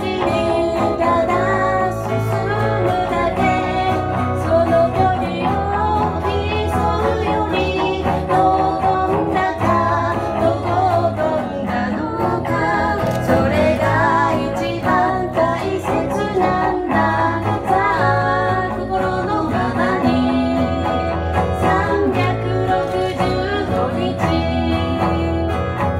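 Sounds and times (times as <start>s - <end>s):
guitar accompaniment: 0.0s - 25.9s
woman singing pop song: 0.0s - 25.9s.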